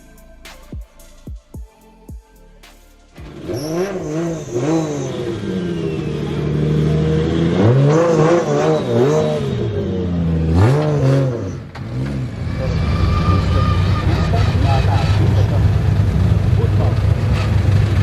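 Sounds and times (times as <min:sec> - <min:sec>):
car engine revving: 0:03.0 - 0:18.0.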